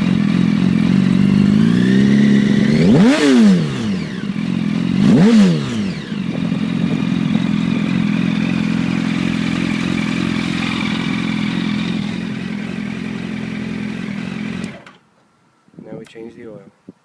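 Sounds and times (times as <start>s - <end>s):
motorcycle engine revving and idling: 0.0s - 15.1s.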